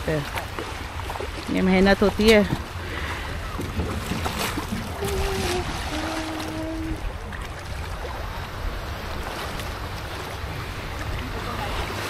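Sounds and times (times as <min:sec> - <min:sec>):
small waves: 0:00.0 - 0:12.0
water swishing around legs: 0:00.0 - 0:12.0
wind buffeting microphone: 0:00.0 - 0:12.0.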